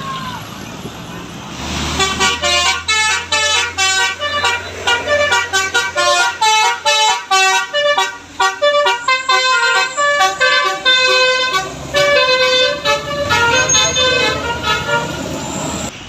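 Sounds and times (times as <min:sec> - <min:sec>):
bus musical air horn: 0:01.7 - 0:15.5.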